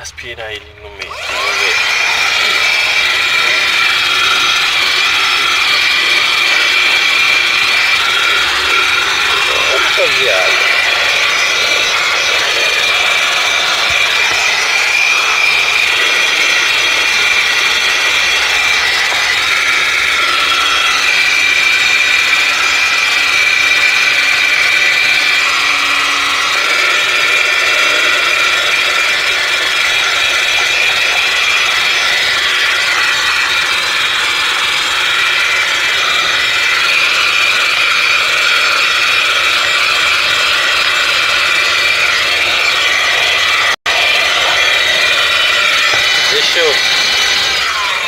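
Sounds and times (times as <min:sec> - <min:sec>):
car vacuum cleaner whining: 0:00.0 - 0:48.0.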